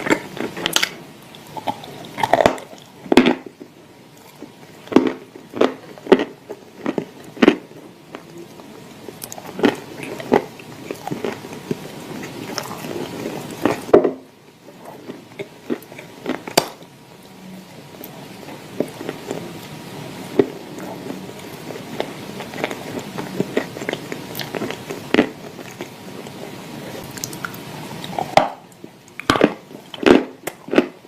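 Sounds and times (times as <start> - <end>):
soft chewing: 0.0 - 13.9, 14.7 - 31.0.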